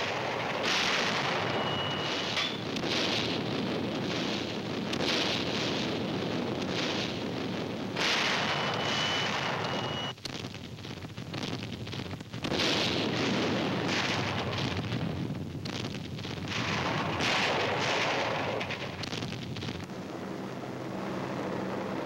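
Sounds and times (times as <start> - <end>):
heavy gunfire and explosions: 0.0 - 22.0.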